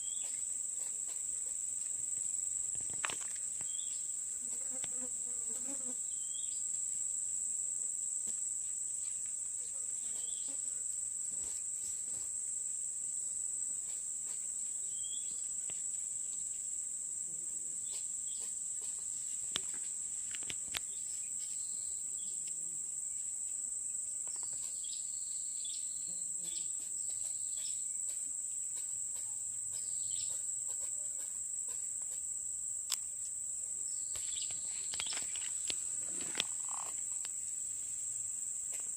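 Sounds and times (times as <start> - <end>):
crickets droning: 0.0 - 38.9.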